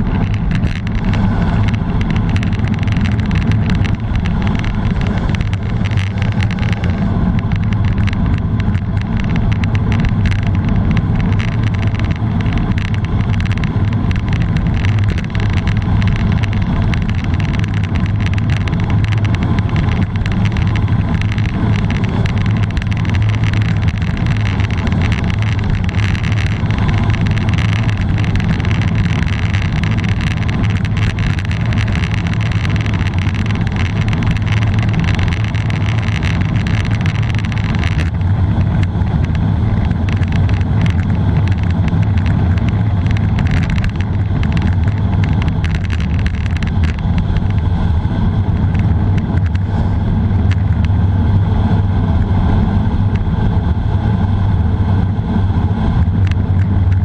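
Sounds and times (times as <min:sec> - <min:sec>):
tyre rumble on asphalt: 0:00.0 - 0:57.0
wind buffeting microphone: 0:00.0 - 0:57.0.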